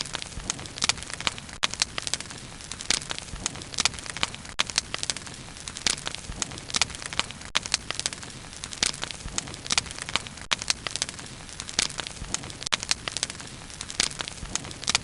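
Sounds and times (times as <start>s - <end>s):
bonfire crackling and popping: 0.0s - 15.0s
low hiss of flames: 0.0s - 15.0s.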